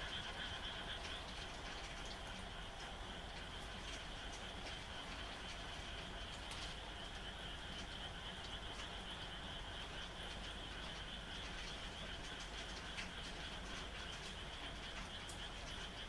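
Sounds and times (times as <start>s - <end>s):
frogs calling: 0.0s - 16.0s
steady rain: 0.0s - 16.0s.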